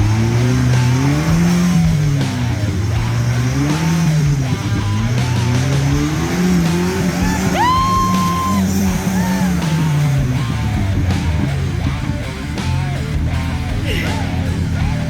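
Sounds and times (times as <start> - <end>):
guitar music: 0.0 - 15.0
off-road vehicle engine revving: 0.0 - 15.0.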